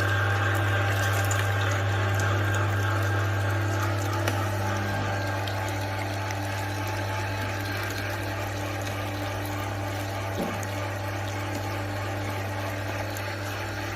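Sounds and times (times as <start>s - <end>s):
electric meat grinder humming: 0.0s - 13.9s.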